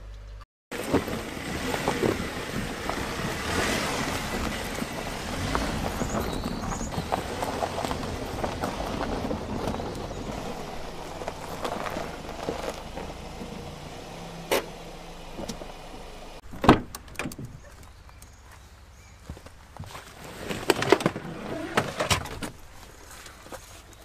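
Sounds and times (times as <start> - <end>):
suv engine running: 0.0 - 20.3.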